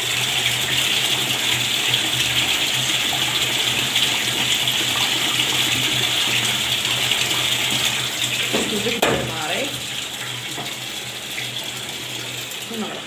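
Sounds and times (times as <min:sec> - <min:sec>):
tap water filling plastic bottle: 0:00.0 - 0:13.0.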